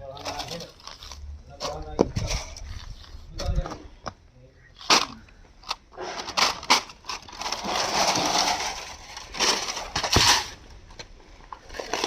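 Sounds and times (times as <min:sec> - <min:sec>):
cable scraping and crunching: 0:00.0 - 0:03.6, 0:04.8 - 0:12.0.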